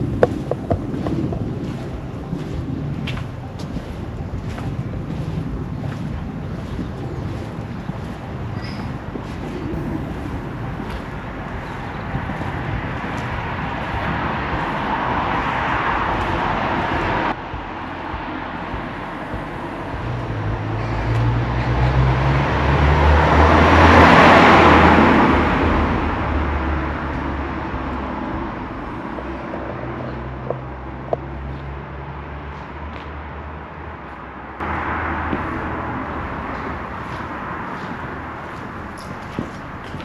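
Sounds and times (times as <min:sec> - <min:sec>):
vehicle driving past: 0:00.0 - 0:40.0.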